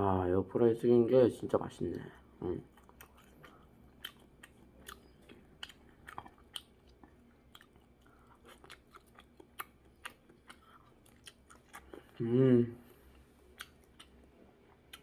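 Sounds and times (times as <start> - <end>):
person chewing food: 1.9 - 12.2, 12.8 - 15.0.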